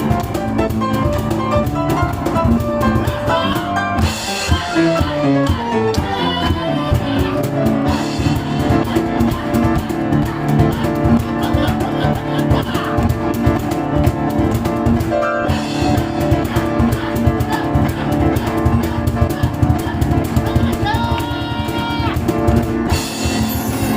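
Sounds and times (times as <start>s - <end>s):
hand drum strikes: 0.0s - 23.9s
piano playing: 0.0s - 23.9s.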